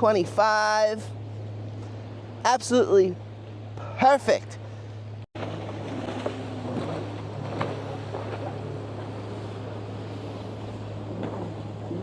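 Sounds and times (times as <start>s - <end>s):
distant boat motor hum: 0.0s - 12.0s.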